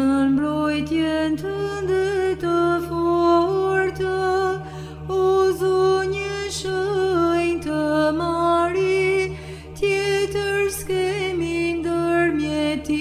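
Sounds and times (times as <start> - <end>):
low vocal drone: 0.0 - 13.0.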